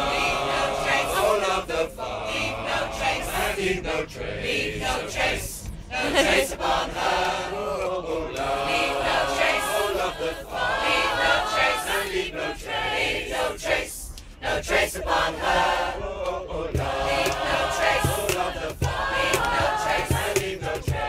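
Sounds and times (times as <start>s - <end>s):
choir singing a chant in harmony: 0.0s - 21.0s.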